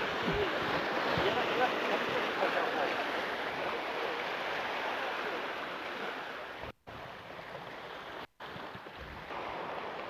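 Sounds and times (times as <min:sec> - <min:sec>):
waves breaking on rocks: 0:00.0 - 0:10.0.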